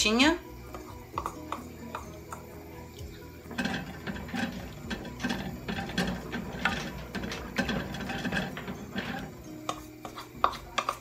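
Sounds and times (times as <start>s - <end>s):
spoon scraping metal pot: 0.7s - 11.0s.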